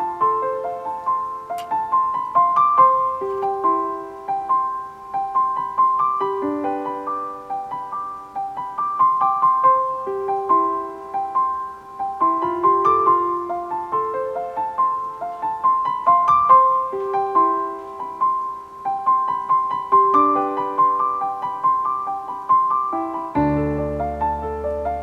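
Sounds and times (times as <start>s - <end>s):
gentle solo piano: 0.0s - 25.0s.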